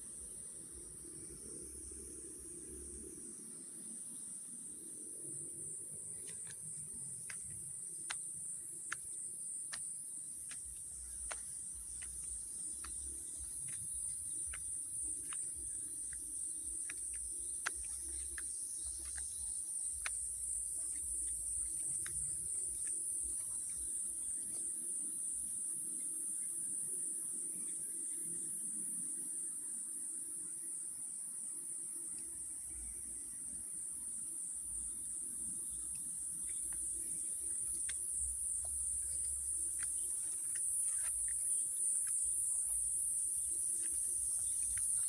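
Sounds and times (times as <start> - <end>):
insects chirping chorus: 0.0 - 45.0.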